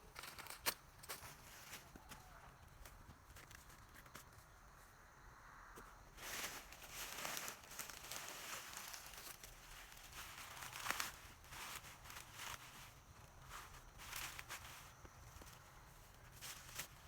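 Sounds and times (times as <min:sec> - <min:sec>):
dry plants rustling and crackling: 0:00.0 - 0:04.8, 0:05.8 - 0:17.0.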